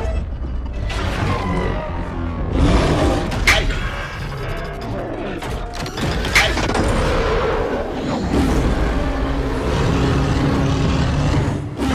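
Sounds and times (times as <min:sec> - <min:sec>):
action film music: 0:00.0 - 0:11.9.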